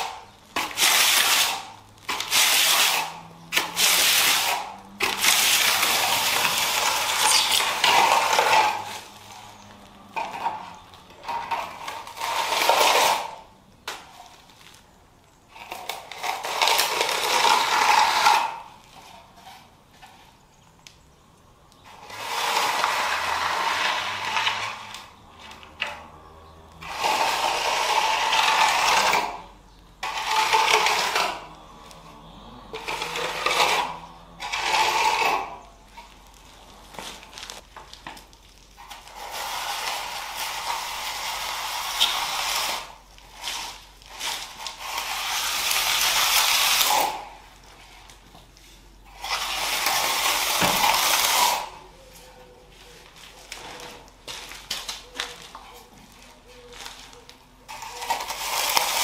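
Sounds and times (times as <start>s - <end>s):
trowel scraping wet concrete: 0.0s - 14.5s, 15.5s - 20.4s, 21.8s - 38.2s, 38.8s - 52.2s, 52.8s - 59.0s.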